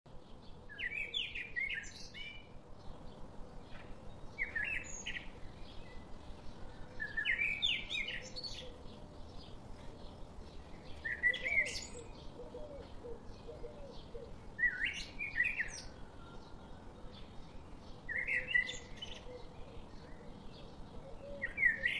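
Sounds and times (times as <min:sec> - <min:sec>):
bird singing: 0:00.1 - 0:21.9
faint background hiss: 0:00.1 - 0:21.9.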